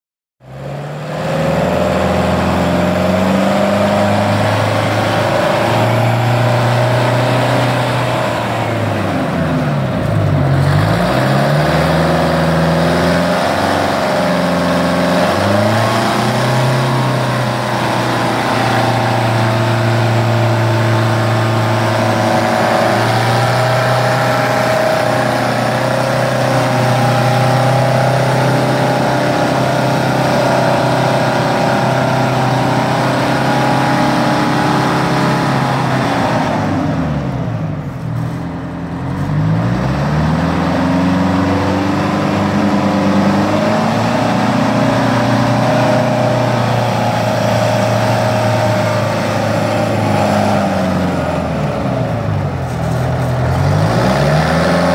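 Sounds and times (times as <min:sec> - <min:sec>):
wheel loader diesel engine running: 0:00.4 - 0:54.9.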